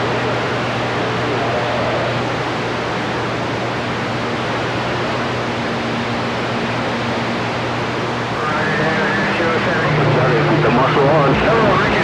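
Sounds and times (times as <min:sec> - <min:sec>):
low steady hum: 0:00.0 - 0:12.0
radio static hiss: 0:00.0 - 0:12.0.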